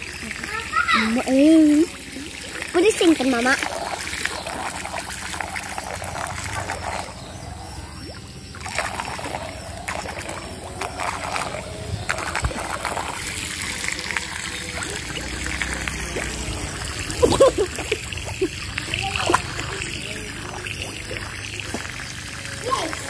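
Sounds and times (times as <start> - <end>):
water splashing and trickling: 0.0 - 23.0.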